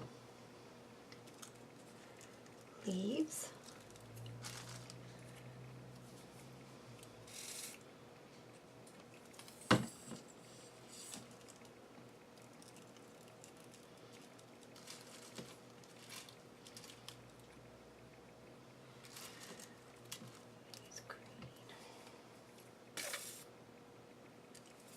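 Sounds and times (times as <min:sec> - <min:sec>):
soft rustles of craft pieces: 0:01.1 - 0:11.8, 0:12.4 - 0:17.6, 0:19.0 - 0:23.5.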